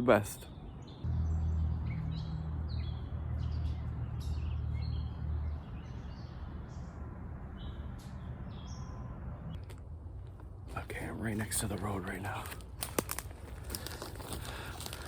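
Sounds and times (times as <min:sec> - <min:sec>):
small birds chirping: 0:00.0 - 0:15.0
low rumble: 0:00.7 - 0:15.0.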